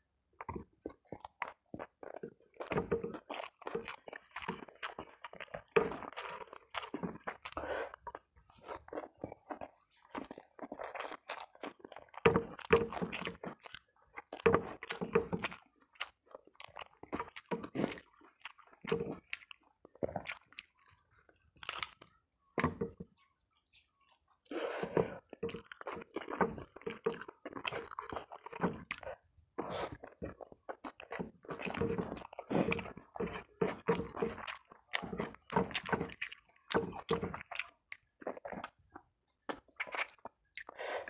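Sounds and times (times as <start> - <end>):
close chewing and crunching: 0.0 - 41.0.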